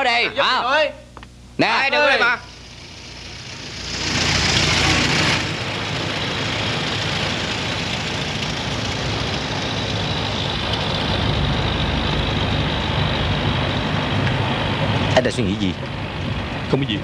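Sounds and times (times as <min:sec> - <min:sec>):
engine low drone: 0:02.1 - 0:17.0.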